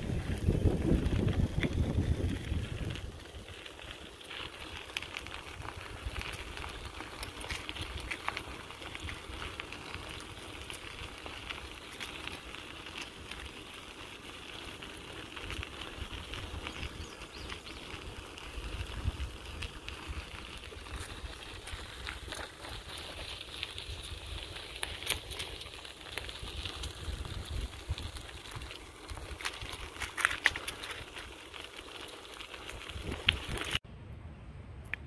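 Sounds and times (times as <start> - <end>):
bicycle tyres crunching on gravel: 0.0 - 33.8.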